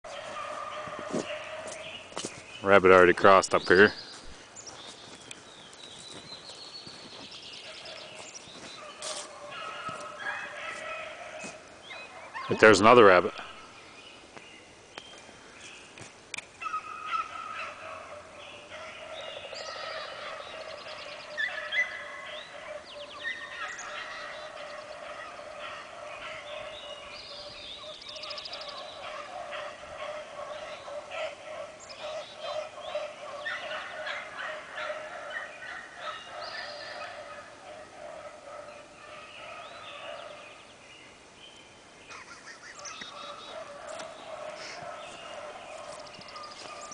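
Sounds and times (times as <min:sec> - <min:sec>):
hounds baying: 0:00.1 - 0:03.9, 0:05.9 - 0:13.6, 0:16.6 - 0:40.6, 0:42.2 - 0:46.9.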